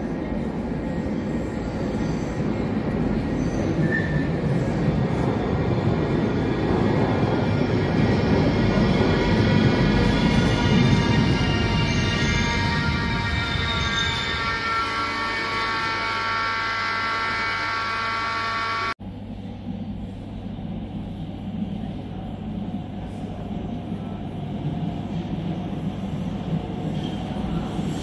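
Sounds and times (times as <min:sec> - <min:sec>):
train rumbling in tunnel: 0:00.0 - 0:28.0.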